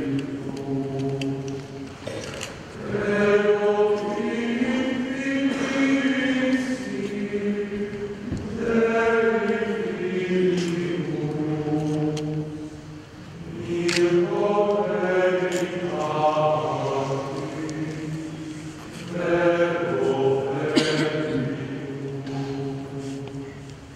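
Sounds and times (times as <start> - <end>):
male choir chanting: 0.0 - 1.8, 2.7 - 23.6.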